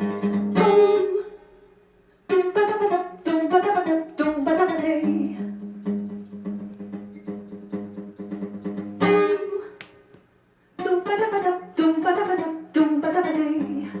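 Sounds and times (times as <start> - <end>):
acoustic guitar music from speaker: 0.0 - 9.8, 10.8 - 14.0.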